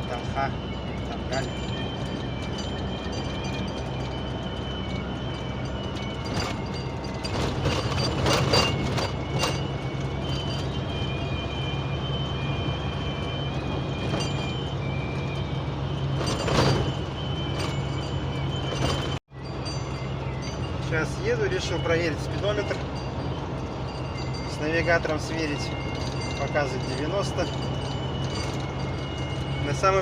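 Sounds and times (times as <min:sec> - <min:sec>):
cab rattles and knocks: 0:00.0 - 0:12.2, 0:12.9 - 0:19.2, 0:21.7 - 0:30.0
high wavering cab whistle: 0:00.0 - 0:30.0
truck engine and road drone: 0:00.0 - 0:30.0.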